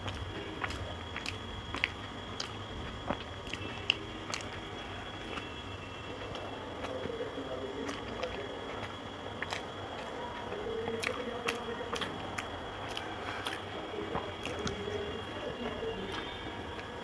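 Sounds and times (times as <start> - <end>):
faint steady hum: 0.0 - 17.0
lip smacks: 0.0 - 17.0
person chewing with wet clicks: 0.0 - 17.0.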